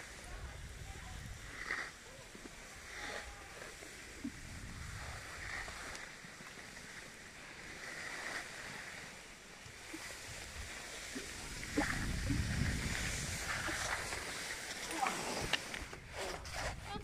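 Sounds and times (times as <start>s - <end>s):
light clicks of ski poles: 0.0s - 17.0s
skis swishing over snow: 0.0s - 17.0s.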